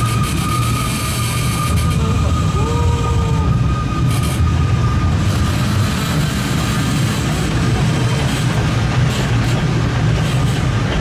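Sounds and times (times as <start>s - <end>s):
trolley train rumbling and rattling: 0.0s - 11.0s.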